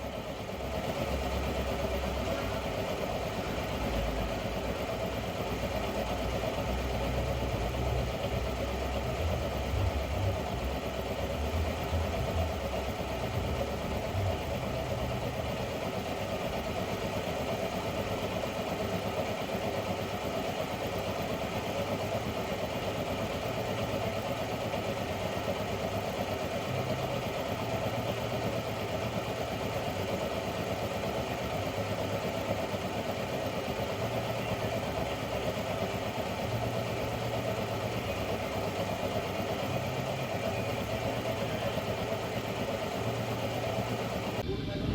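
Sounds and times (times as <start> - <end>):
hot-air plastic welder running: 0.0 - 44.4.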